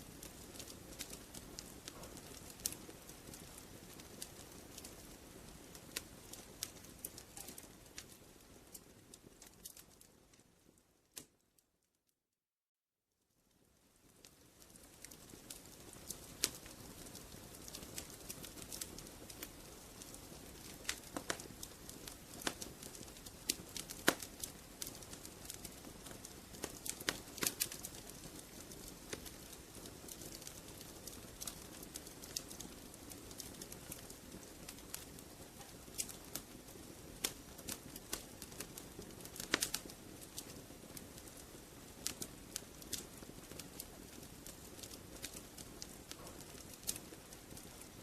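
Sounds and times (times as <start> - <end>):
wood fire crackling: 0.0 - 11.6, 13.2 - 48.0.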